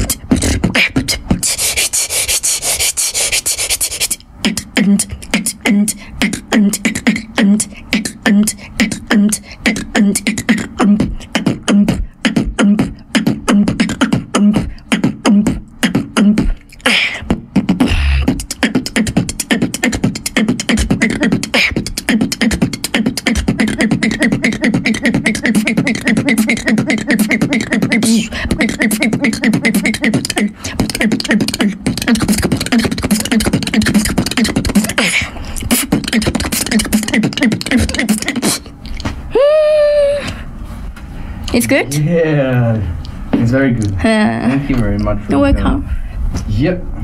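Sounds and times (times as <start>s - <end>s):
woman beatboxing: 0.0s - 40.4s, 41.5s - 41.9s, 44.0s - 45.9s.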